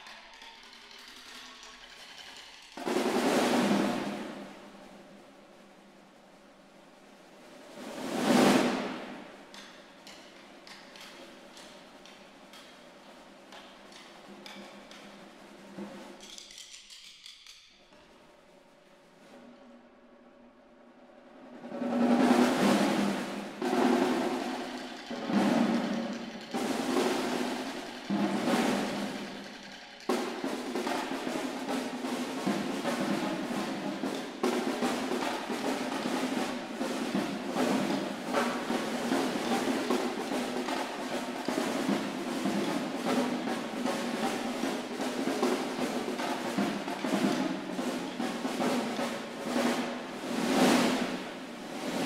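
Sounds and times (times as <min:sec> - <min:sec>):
snare drum rolls: 0:00.0 - 0:19.9, 0:20.9 - 0:52.0.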